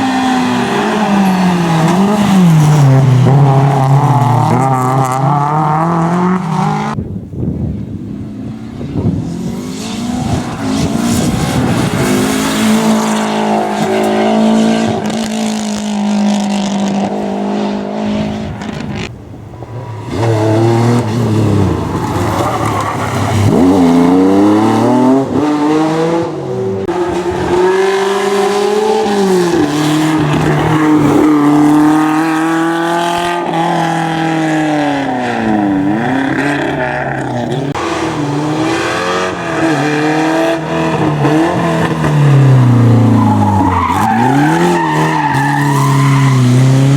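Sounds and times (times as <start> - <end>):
rally car engines revving: 0.0 - 7.1, 7.8 - 46.9.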